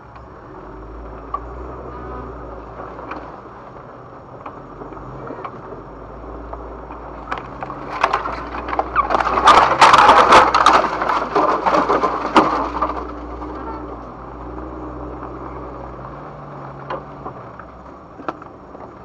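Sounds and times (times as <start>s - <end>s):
engine humming: 0.0s - 19.0s
branches scraping and snapping on car: 0.2s - 19.0s.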